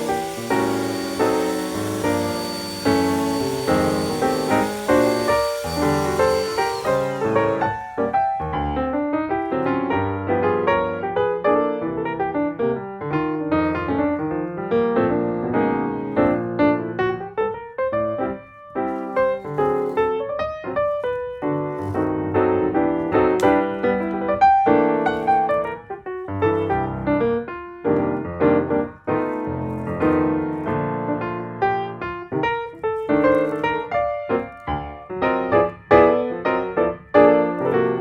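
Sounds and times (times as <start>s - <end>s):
piano music: 0.0s - 38.0s.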